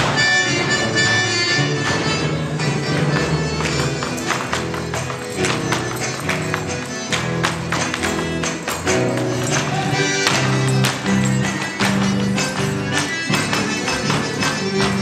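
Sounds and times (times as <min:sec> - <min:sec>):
boots stamping on wooden stage: 0:00.0 - 0:15.0
folk dance music with reed melody: 0:00.0 - 0:15.0.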